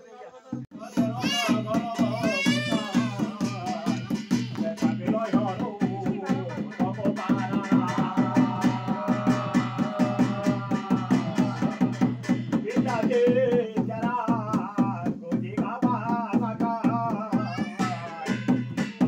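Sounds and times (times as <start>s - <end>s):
barrel drum beat: 0.7s - 19.0s
person singing devotional song: 0.7s - 19.0s.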